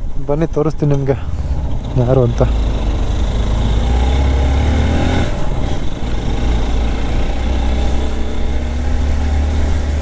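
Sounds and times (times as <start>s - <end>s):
motorcycle engine droning: 1.2s - 10.0s.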